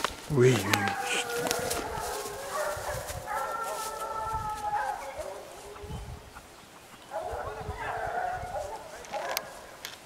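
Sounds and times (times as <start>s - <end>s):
hounds baying: 0.4s - 9.8s.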